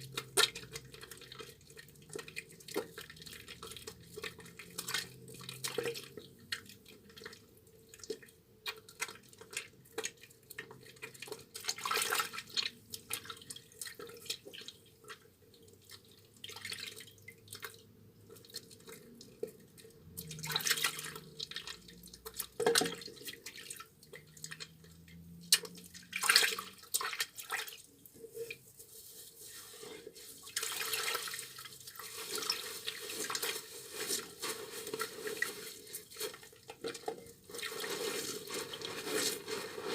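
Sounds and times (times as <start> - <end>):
wet soap squishing: 0.0 - 39.9.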